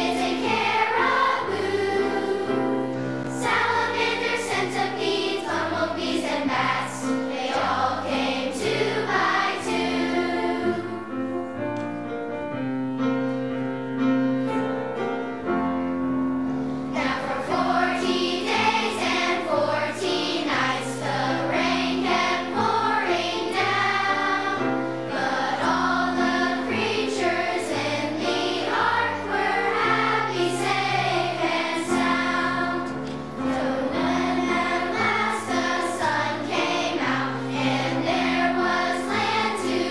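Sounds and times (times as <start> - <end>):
children's choir singing: 0.0 - 11.8, 16.7 - 39.9
piano accompaniment: 0.0 - 39.9.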